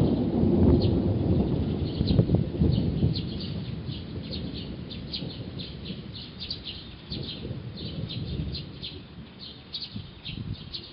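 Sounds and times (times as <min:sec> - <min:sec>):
songbirds chirping: 0:00.0 - 0:10.9.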